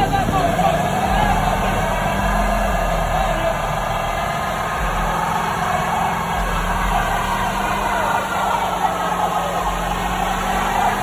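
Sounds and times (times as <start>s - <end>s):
engine at high revs: 0.0s - 11.0s
tyres spinning on pavement: 0.0s - 11.0s.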